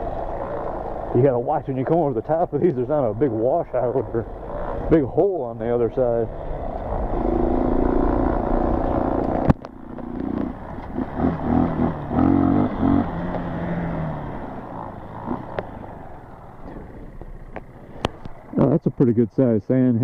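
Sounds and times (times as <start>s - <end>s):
dirt bike engine revving: 0.0s - 18.7s.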